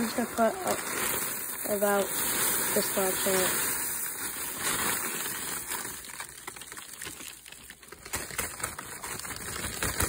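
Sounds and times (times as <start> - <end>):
cereal flakes rustling: 0.0 - 10.0
plastic bag crinkling: 0.0 - 10.0.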